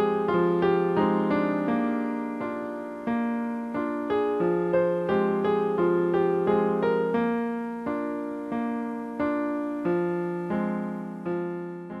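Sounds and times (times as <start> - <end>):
piano notes and chords: 0.0 - 12.0.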